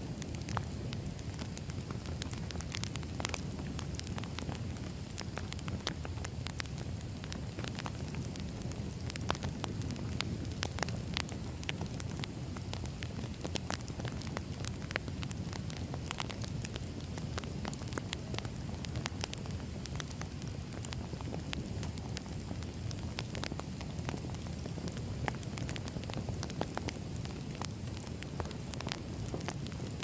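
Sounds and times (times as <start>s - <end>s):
firewood crackling: 0.0s - 30.0s.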